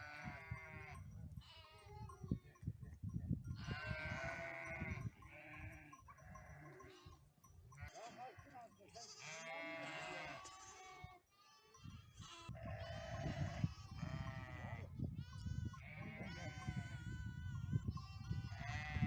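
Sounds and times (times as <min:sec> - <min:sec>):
sheep and lambs bleating: 0:00.0 - 0:02.6, 0:03.4 - 0:19.0.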